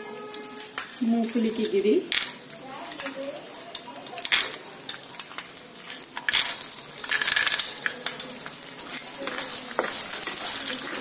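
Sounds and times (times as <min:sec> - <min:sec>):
peanuts sizzling in hot oil: 0:00.0 - 0:11.0.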